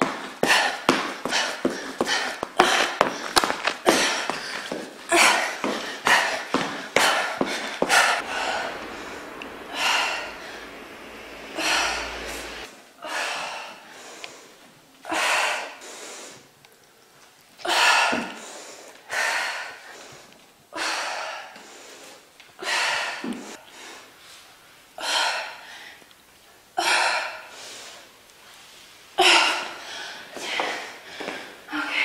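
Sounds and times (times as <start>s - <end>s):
woman breathing hard: 0.1s - 16.5s, 17.6s - 24.2s, 25.0s - 26.1s, 26.8s - 28.1s, 29.2s - 32.0s.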